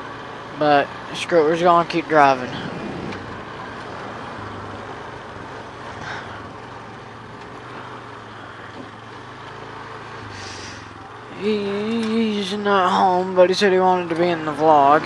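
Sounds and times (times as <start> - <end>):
off-road vehicle engine running: 0.0 - 15.0
tyre and ride noise: 0.0 - 15.0.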